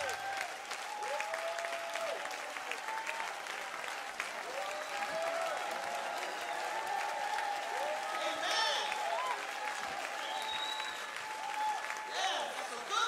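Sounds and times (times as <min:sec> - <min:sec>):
audience applauding: 0:00.0 - 0:13.0
cheers and whoops: 0:00.0 - 0:13.0.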